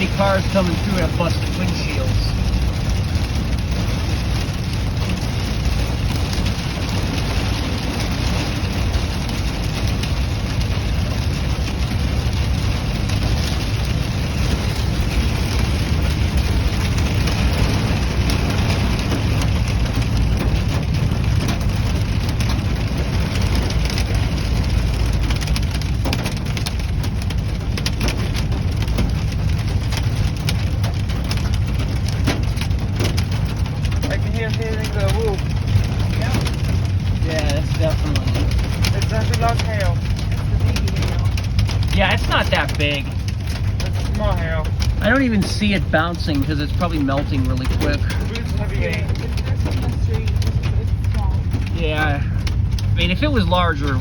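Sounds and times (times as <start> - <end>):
car low rumble: 0.0 - 54.0
rain and hail on car roof: 0.0 - 54.0.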